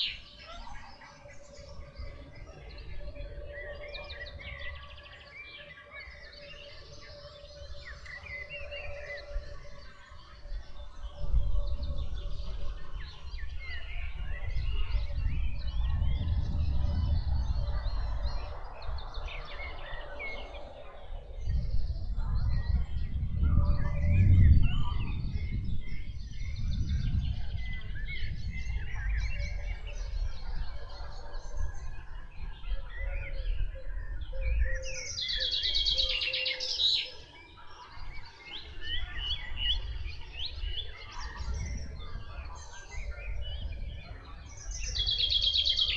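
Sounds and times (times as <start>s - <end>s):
wild birds singing: 0.0s - 45.9s.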